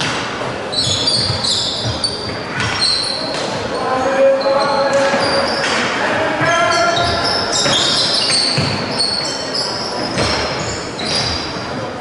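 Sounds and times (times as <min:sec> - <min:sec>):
shoes squeaking on floor: 0:00.0 - 0:12.0.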